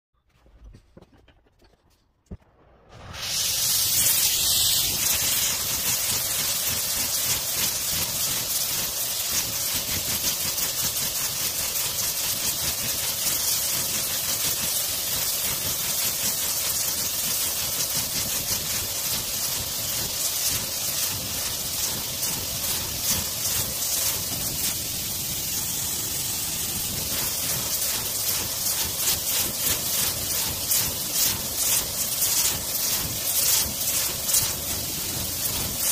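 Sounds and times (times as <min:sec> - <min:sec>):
torch flame hissing: 0:02.7 - 0:35.9.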